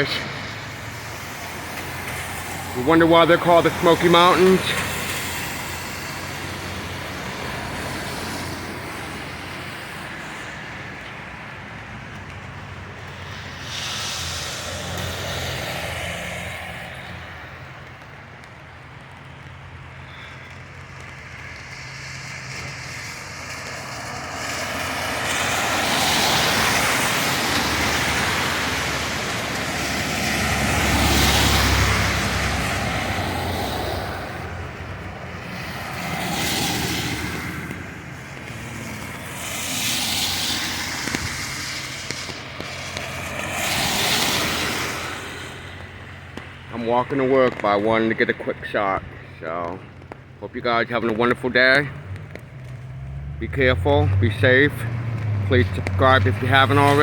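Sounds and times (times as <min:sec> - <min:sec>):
tyres hissing on wet road: 0:00.0 - 0:57.0
vehicle deep rumble: 0:00.0 - 0:57.0.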